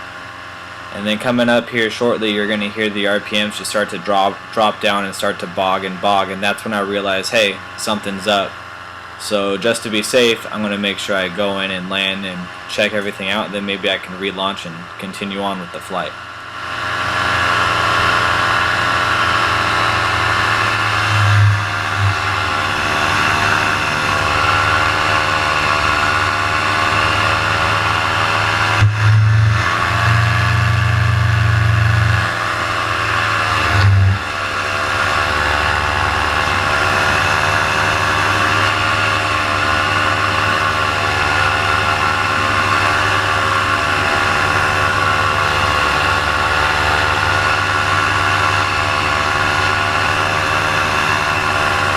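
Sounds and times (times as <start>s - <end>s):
paramotor engine running: 0.0s - 51.9s.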